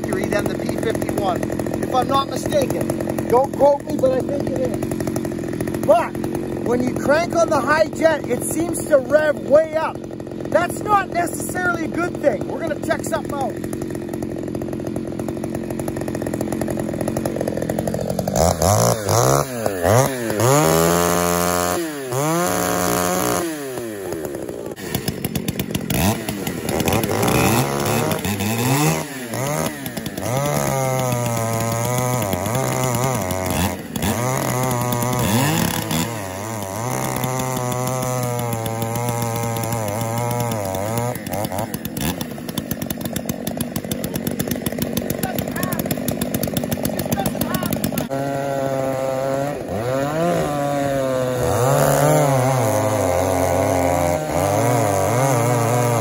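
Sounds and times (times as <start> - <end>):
chainsaw cutting log: 0.0 - 56.0
chainsaw idling and revving: 0.0 - 56.0.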